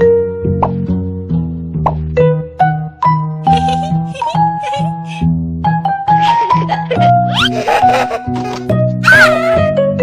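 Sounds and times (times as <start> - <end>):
bouncy cartoon music: 0.0 - 10.0.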